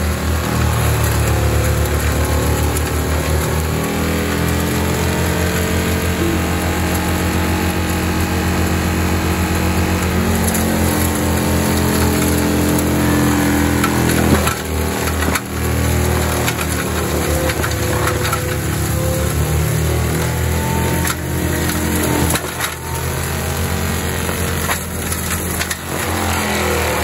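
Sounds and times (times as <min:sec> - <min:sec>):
mulcher grinding brush: 0:00.0 - 0:27.0.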